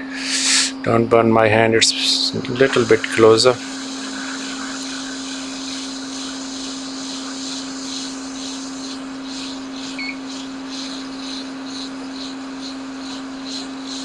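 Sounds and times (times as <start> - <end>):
hot air blower hissing: 0.0 - 0.9, 1.8 - 14.0.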